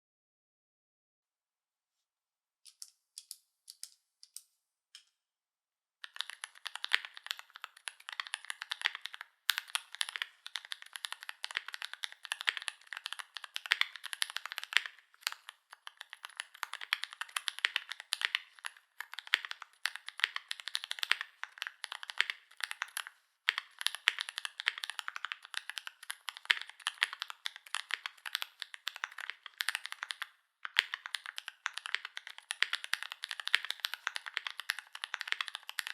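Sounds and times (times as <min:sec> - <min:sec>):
mechanical keyboard typing: 0:06.0 - 0:35.9.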